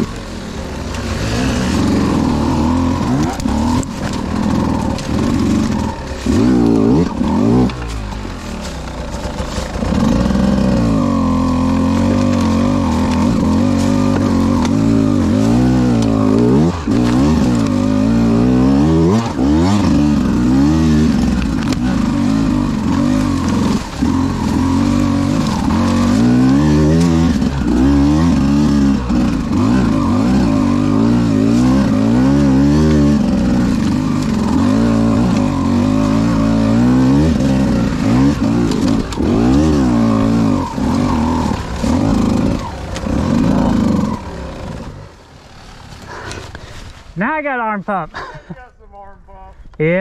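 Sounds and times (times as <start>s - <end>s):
dirt bike engine revving: 0.0s - 46.8s.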